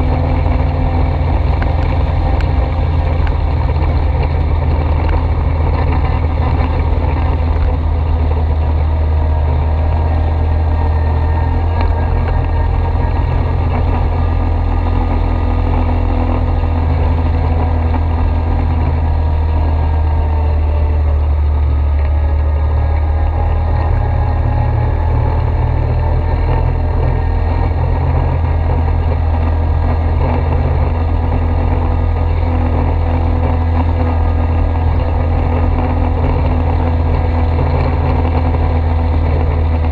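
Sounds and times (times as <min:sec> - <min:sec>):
quad bike engine droning: 0:00.0 - 0:39.9.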